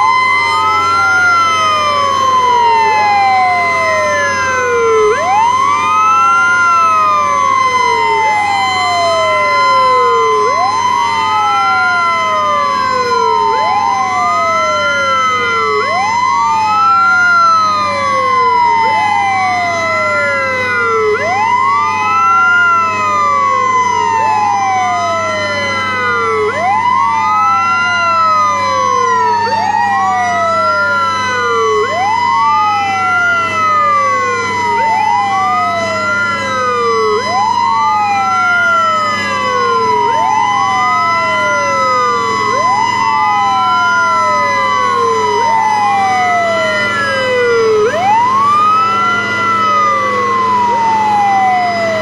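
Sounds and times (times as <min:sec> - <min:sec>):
fire truck sirens wailing: 0:00.0 - 0:52.0
steady high siren tone: 0:00.0 - 0:52.0.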